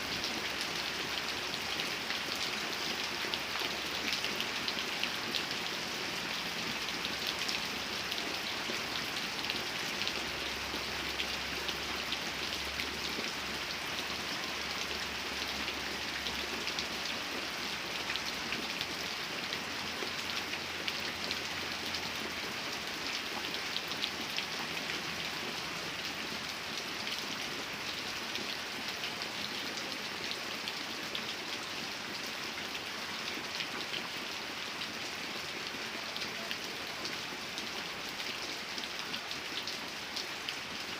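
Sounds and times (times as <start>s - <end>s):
rain on hard surface: 0.0s - 40.9s.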